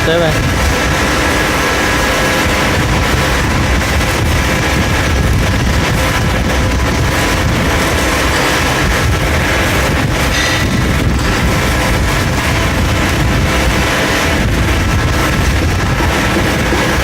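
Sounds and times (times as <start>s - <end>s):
cnc machine running: 0.0s - 17.0s.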